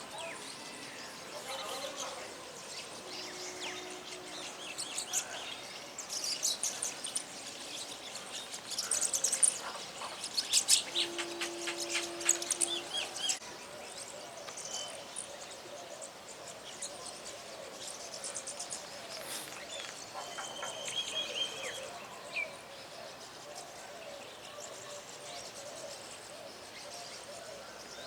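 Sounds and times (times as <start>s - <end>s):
songbirds chirping and twittering: 0.0s - 28.0s.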